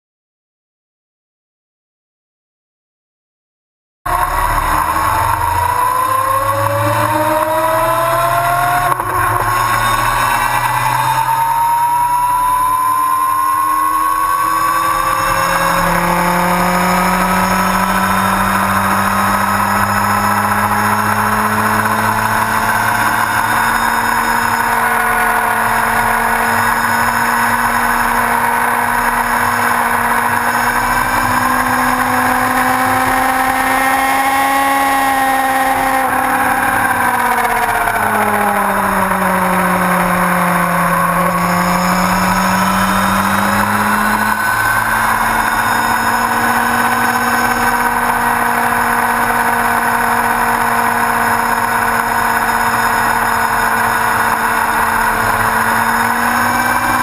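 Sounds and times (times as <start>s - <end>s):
motorcycle engine running: 4.1s - 57.0s.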